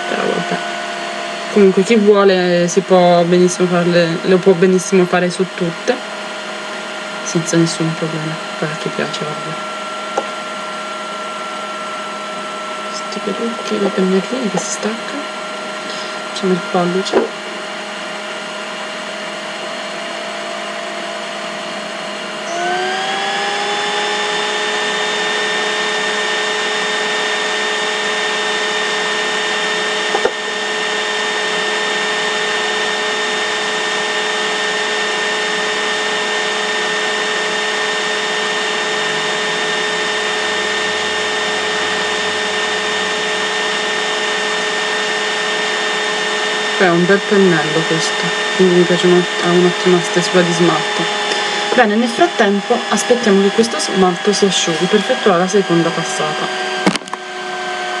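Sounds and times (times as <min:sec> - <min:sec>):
electric motor whining: 0:00.0 - 0:58.0
louder rising whine: 0:00.0 - 0:58.0.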